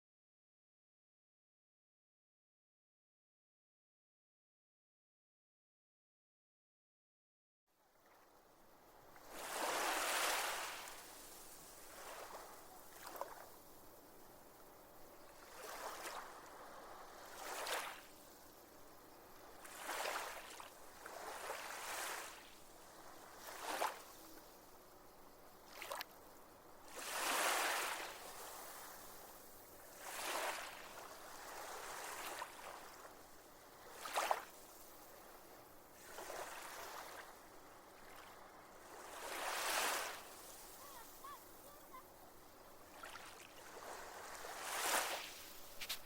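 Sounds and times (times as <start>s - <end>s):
small waves breaking on shore: 7.8s - 46.0s.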